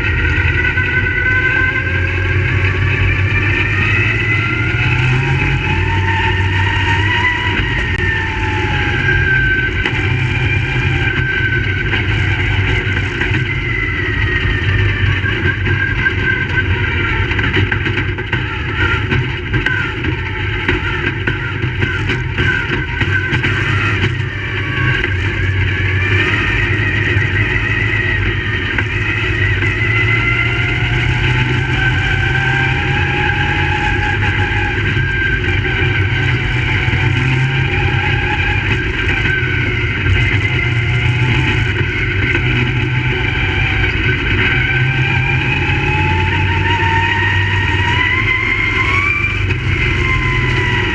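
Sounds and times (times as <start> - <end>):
race car engines: 0.0 - 50.9.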